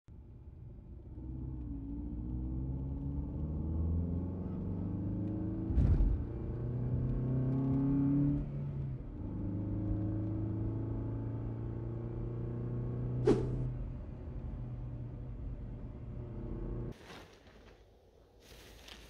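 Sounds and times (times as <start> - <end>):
car engine accelerating: 0.6 - 17.0.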